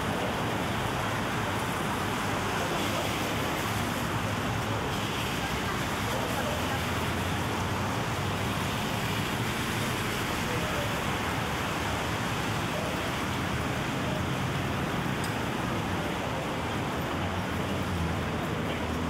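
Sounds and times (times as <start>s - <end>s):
low traffic rumble: 0.0s - 19.0s
rain on a street: 0.0s - 19.0s.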